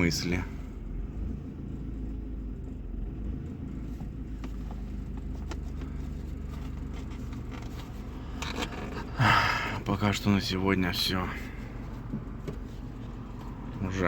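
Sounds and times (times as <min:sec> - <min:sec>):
car engine rumble from inside: 0:00.0 - 0:14.0.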